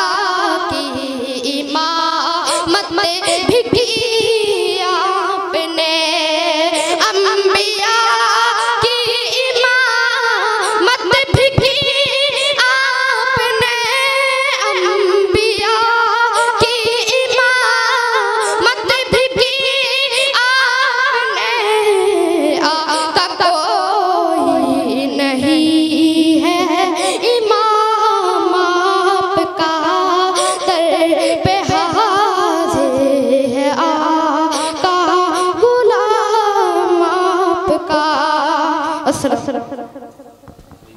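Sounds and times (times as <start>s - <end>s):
boy singing into a microphone: 0.0s - 40.9s.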